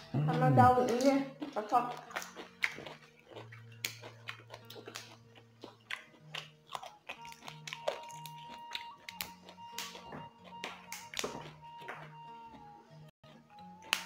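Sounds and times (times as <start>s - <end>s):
crunching and chewing: 0.0s - 14.0s
quiet background music: 0.0s - 14.0s.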